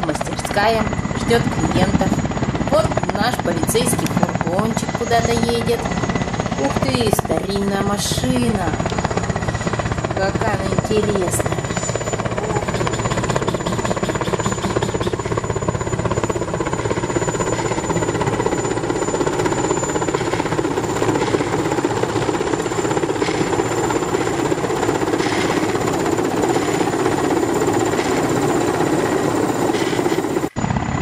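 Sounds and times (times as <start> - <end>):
helicopter rotor blades chopping: 0.0 - 31.0.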